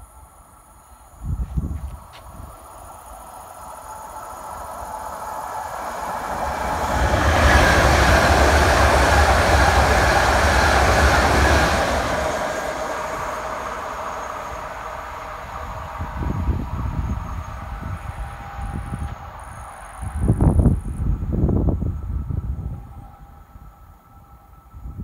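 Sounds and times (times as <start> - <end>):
train wheels rumbling on rail: 0.6 - 25.0.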